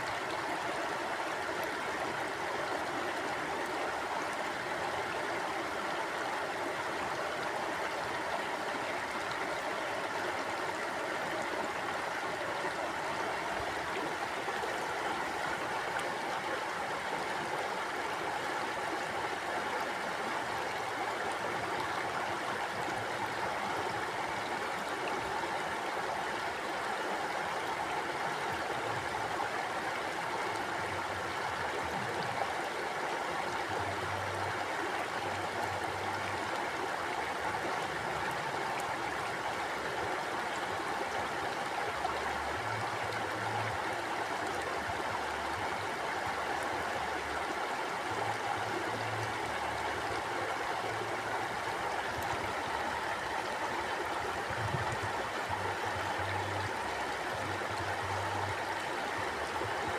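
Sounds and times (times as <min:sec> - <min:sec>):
stream water flowing over stones: 0:00.0 - 0:59.9.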